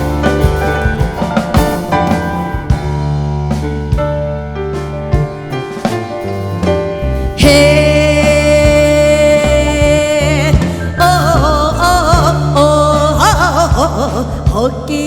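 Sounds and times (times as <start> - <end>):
fusion band playing: 0.0 - 15.0.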